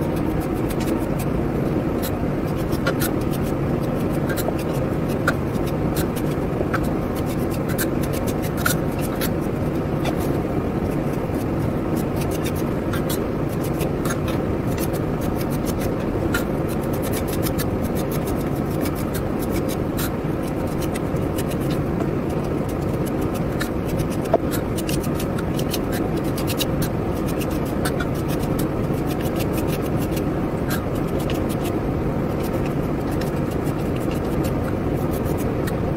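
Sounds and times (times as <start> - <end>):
low rumbling background noise: 0.0 - 35.9.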